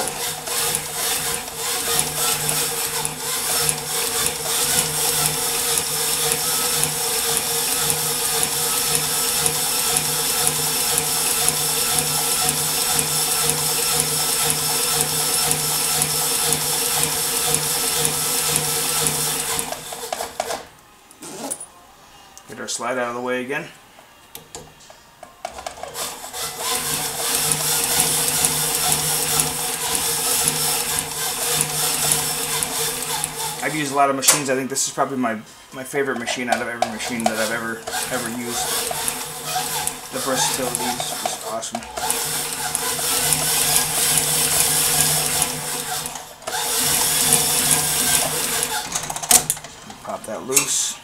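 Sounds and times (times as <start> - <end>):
machine clicks: 0.0 - 20.6, 25.7 - 33.7, 36.2 - 50.7
sewing machine motor hum: 0.0 - 21.4, 25.8 - 34.1, 36.5 - 50.1.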